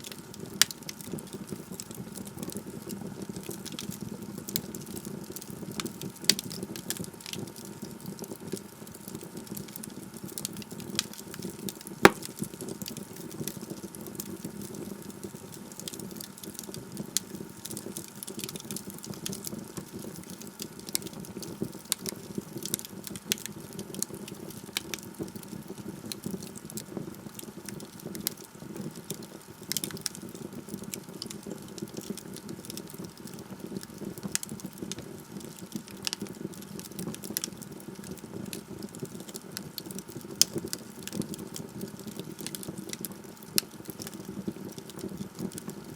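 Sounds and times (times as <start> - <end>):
logs crackling in a fireplace: 0.0 - 45.9.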